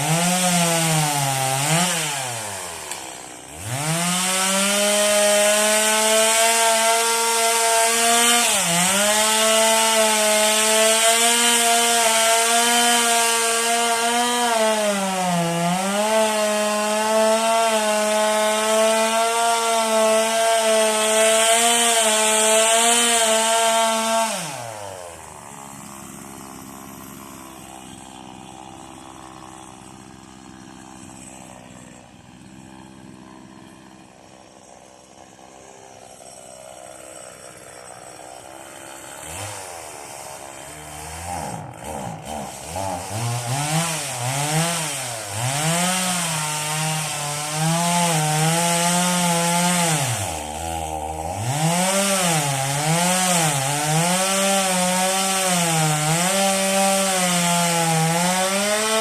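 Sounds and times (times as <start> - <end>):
chain cutting wood: 0.0 - 59.0
chainsaw engine: 0.0 - 59.0.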